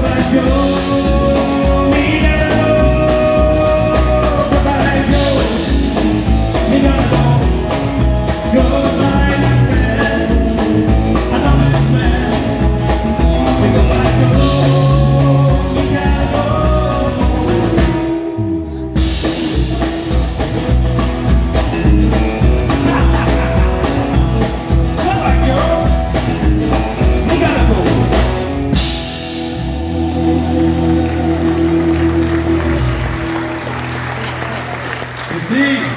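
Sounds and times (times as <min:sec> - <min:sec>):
live country-rock band: 0:00.0 - 0:35.9.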